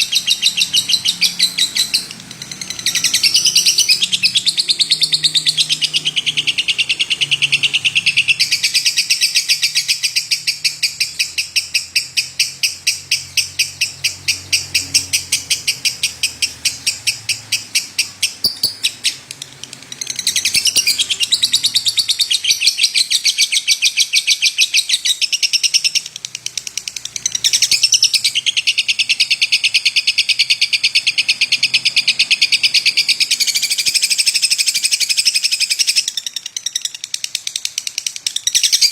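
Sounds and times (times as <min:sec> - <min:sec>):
lovebird chattering chirps: 0:00.0 - 0:38.9.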